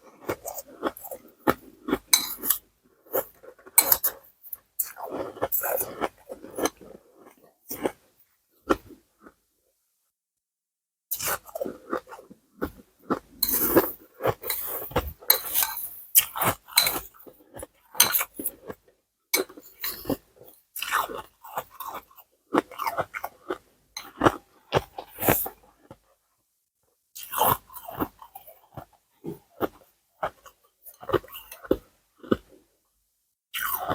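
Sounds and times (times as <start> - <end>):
ice crunching being chewed: 0.1 - 9.4, 11.1 - 26.0, 27.2 - 32.7, 33.6 - 33.9.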